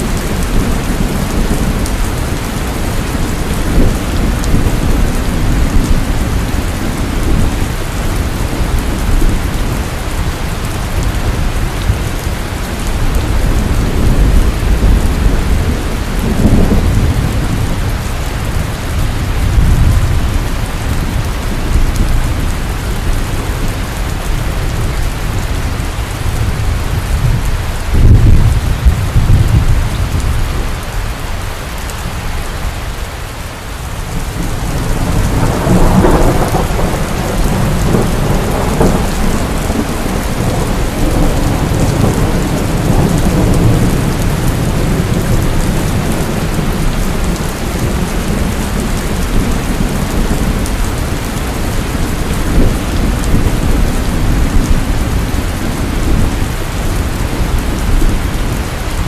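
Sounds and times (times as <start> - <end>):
deep rolling thunder: 0.0 - 30.8, 34.1 - 59.0
heavy rain pouring: 0.0 - 59.0.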